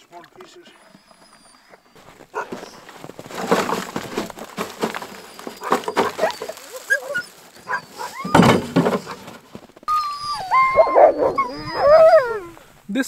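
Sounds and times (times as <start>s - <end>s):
dogs whining: 0.5s - 12.6s.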